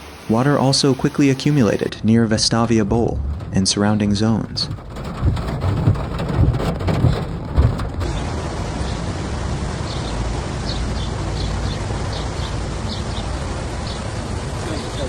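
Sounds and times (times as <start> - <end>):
heavy rain pouring: 0.0 - 15.0
low rumbles: 0.0 - 15.0.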